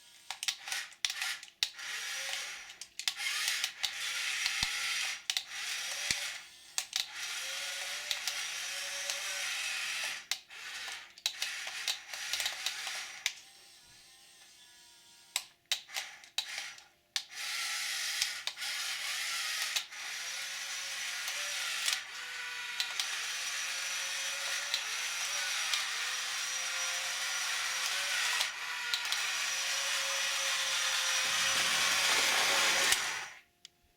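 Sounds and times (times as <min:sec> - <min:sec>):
toy motors and gears whirring: 0:00.0 - 0:33.5.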